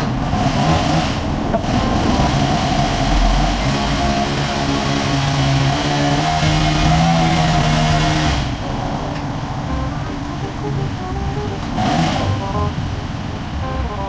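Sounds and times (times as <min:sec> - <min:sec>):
motorcycle engine running: 0:00.0 - 0:08.6, 0:09.7 - 0:13.9
wind and road noise: 0:00.0 - 0:14.0.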